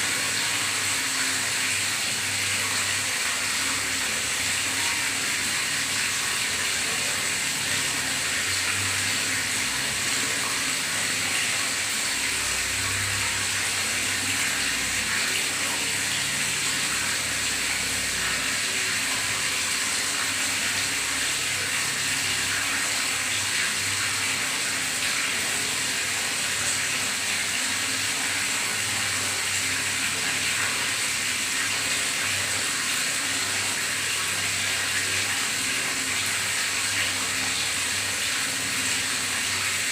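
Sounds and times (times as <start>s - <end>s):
water running in a bathtub: 0.0s - 39.9s.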